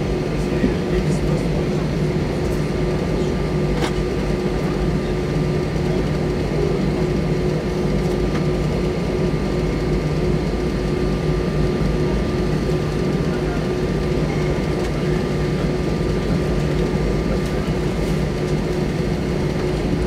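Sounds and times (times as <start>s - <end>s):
jet engine rumble in cabin: 0.0s - 20.0s.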